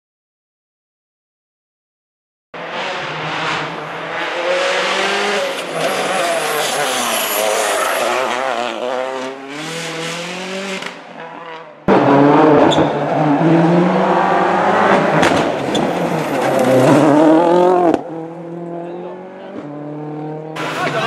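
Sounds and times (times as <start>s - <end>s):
car at full throttle: 2.6s - 21.0s
rally car engines revving: 2.6s - 21.0s.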